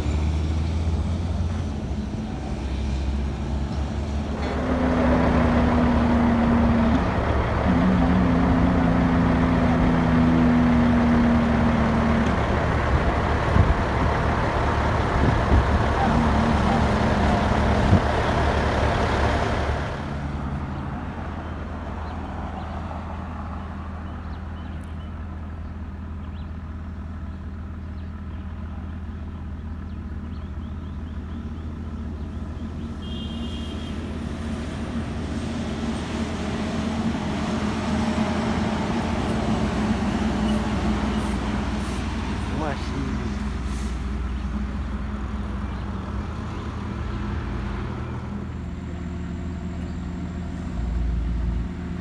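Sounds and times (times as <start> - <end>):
engine hum: 0.0 - 52.0
trucks passing: 0.0 - 52.0.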